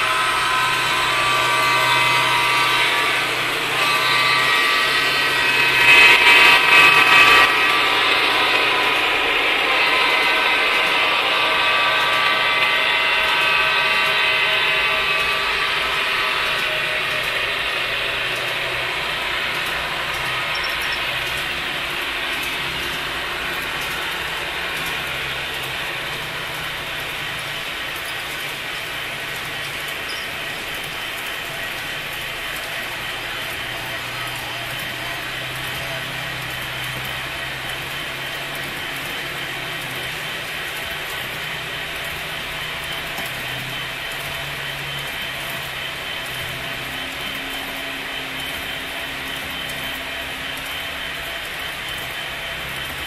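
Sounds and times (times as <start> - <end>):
model train motors whirring: 0.0 - 53.0
wheels on rails: 0.0 - 53.0.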